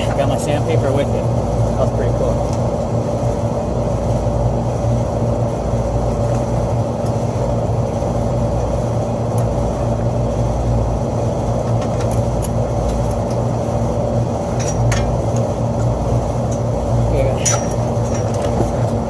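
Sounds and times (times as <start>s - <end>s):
hvac machinery hum: 0.0s - 19.0s.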